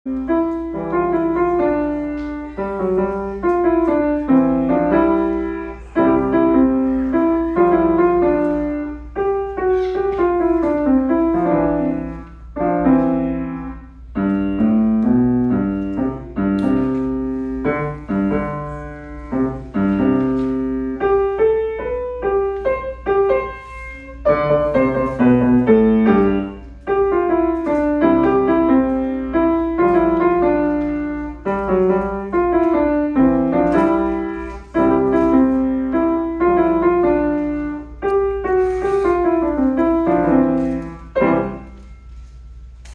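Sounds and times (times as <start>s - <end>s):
grand piano playing: 0.0s - 42.9s.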